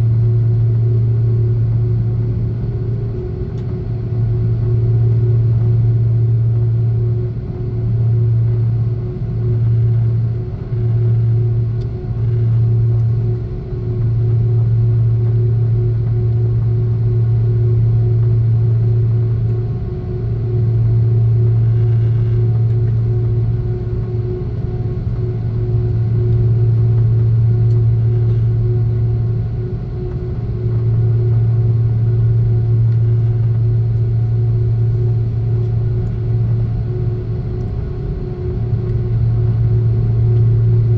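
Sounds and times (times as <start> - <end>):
aircraft cabin drone: 0.0 - 40.9
faint steady whine: 0.0 - 40.9.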